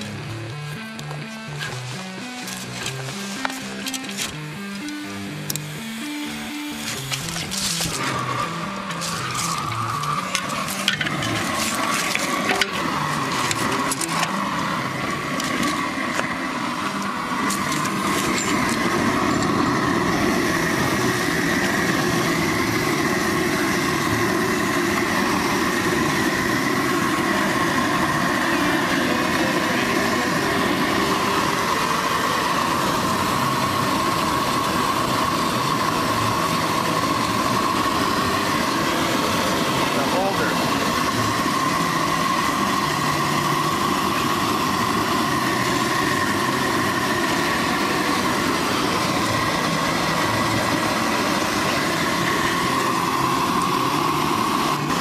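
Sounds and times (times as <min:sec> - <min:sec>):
gas burner flame rushing: 0:00.0 - 0:55.0.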